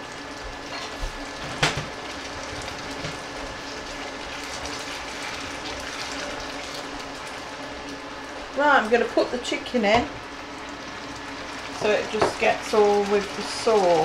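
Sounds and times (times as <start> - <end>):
sauce sizzling in frying pan: 0.0 - 14.0.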